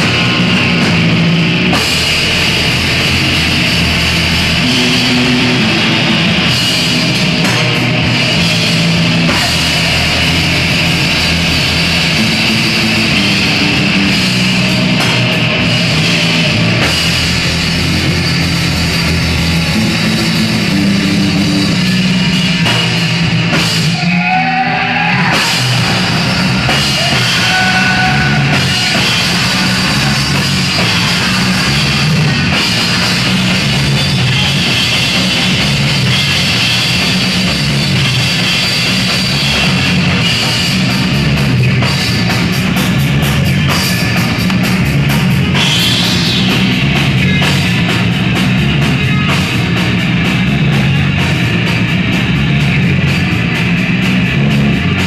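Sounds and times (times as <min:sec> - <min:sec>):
loud metal band playing: 0:00.0 - 0:55.0.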